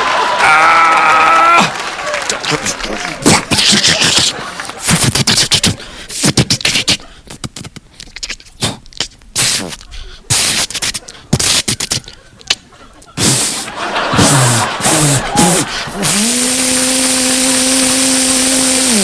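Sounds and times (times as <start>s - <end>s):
man beatboxing into a microphone: 3.2s - 12.6s, 13.2s - 19.0s.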